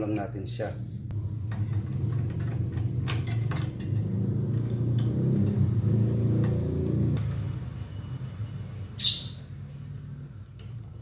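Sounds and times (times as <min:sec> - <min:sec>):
engine rumble: 0:00.9 - 0:11.0.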